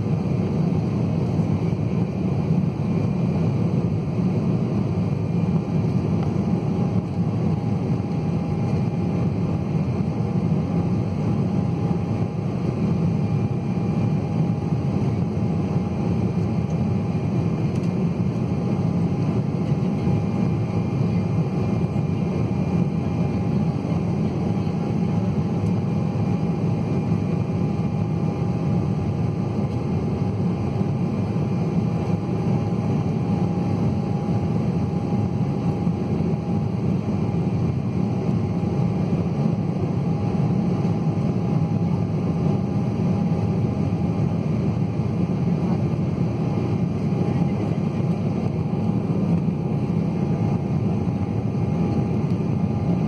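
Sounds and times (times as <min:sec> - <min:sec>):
jet engine drone: 0:00.0 - 0:53.0.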